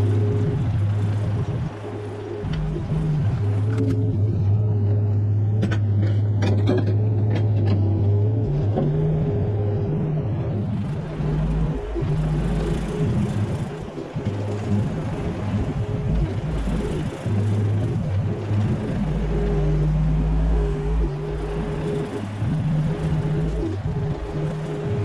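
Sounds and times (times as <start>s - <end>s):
excavator engine running: 0.0s - 25.0s.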